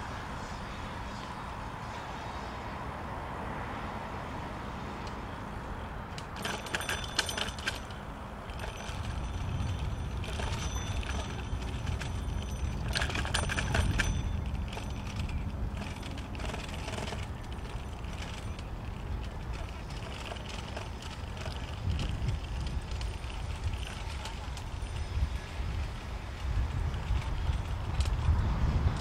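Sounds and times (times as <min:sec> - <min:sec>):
bicycle rolling rumble: 0:00.0 - 0:29.0
bike metallic rattling and clicking: 0:05.0 - 0:29.0.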